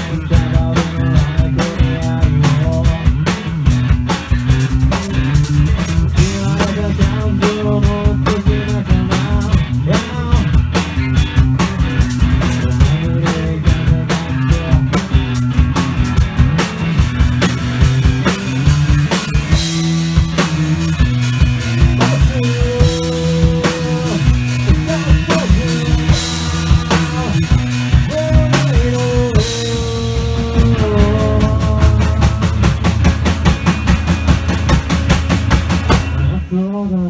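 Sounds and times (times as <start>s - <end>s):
man singing lead vocal: 0.0s - 15.5s, 19.0s - 33.2s, 36.2s - 37.0s
distorted electric guitars: 0.0s - 37.0s
drum kit steady beat: 0.0s - 37.0s.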